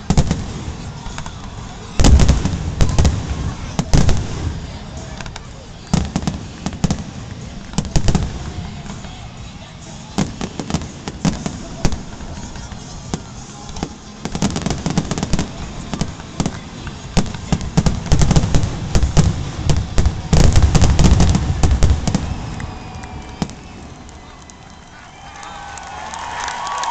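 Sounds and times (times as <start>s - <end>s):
deep fireworks booming: 0.0s - 9.0s, 10.1s - 24.1s
fireworks bangs and crackle: 0.0s - 24.9s.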